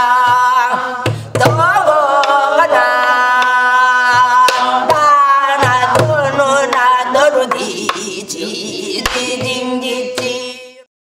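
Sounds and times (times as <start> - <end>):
drum strokes: 0.0 - 10.5.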